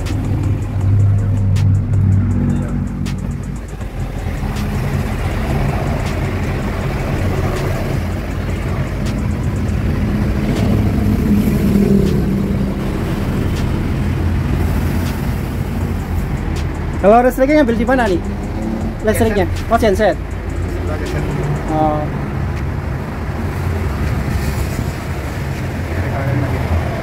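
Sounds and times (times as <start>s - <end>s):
outdoor street noise: 0.0s - 27.0s
steady engine hum: 0.0s - 27.0s.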